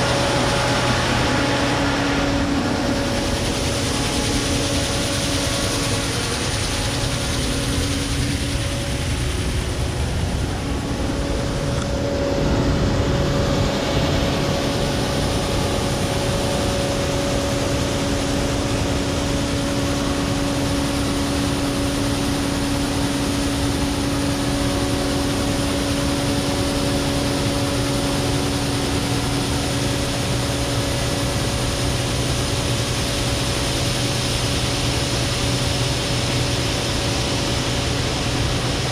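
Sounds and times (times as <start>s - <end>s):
combine harvester machinery drone: 0.0s - 38.9s.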